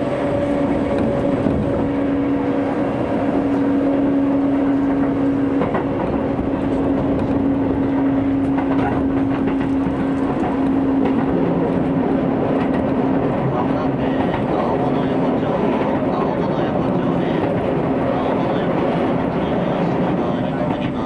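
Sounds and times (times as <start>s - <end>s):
electric train motor hum: 0.0s - 21.0s
wheel and track noise: 0.0s - 21.0s.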